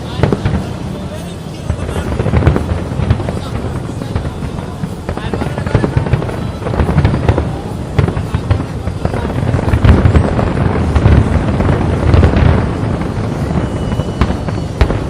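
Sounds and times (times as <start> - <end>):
firework bangs and crackles: 0.0 - 15.0.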